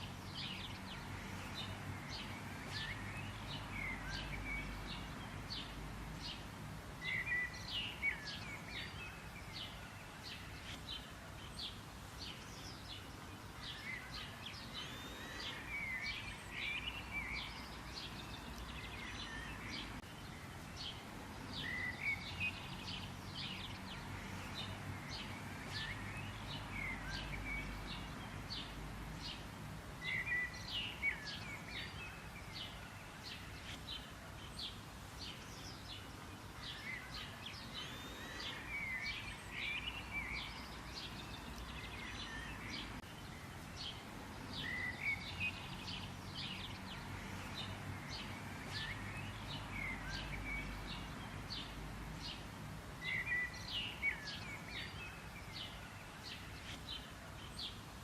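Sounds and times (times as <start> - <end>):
songbirds chirping and twittering: 0.0 - 58.0.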